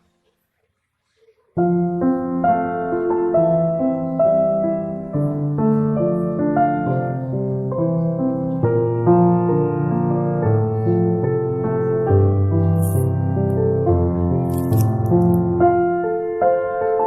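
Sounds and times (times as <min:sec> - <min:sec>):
piano melody: 0:01.6 - 0:17.0.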